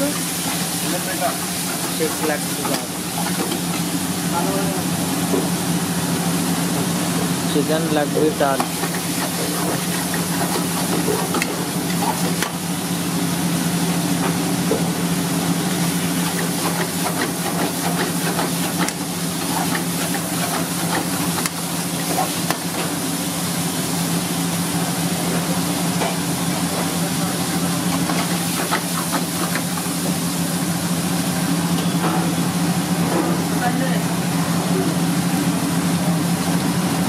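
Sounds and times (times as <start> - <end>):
chicken frying in a wok: 0.0 - 37.0
gas burner hissing: 0.0 - 37.0.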